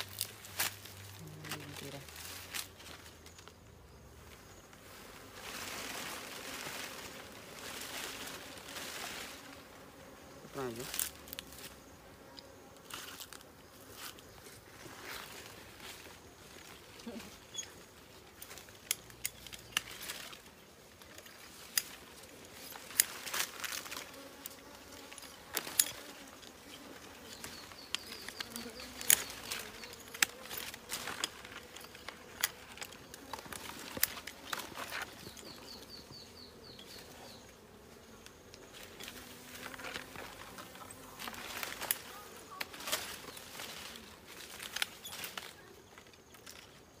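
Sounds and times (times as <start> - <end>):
bees buzzing: 3.8 - 44.6.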